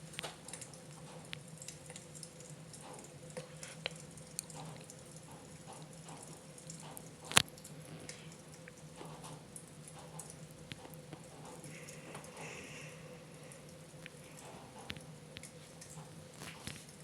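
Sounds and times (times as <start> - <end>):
faint steady hum: 0.0 - 17.0
wood fire crackling: 0.0 - 17.0.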